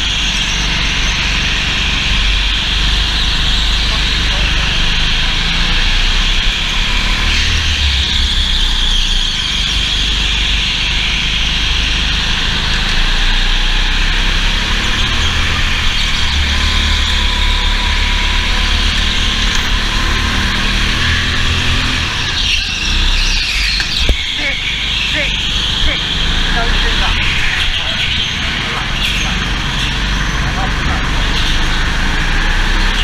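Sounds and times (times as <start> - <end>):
go-kart engine running: 0.0 - 33.0.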